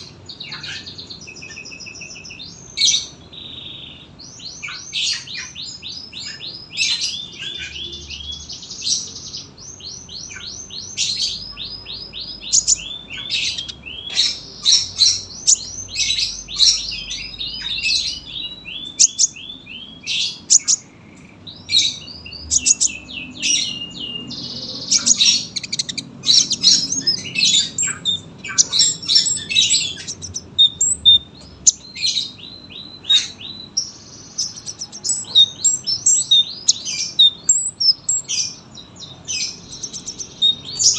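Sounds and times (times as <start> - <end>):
sunbird singing chirps and trills: 0.0 - 40.9.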